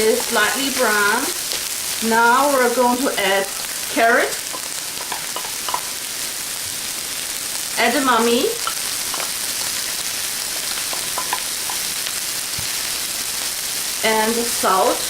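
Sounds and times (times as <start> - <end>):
vegetables frying in hot oil: 0.0 - 15.0.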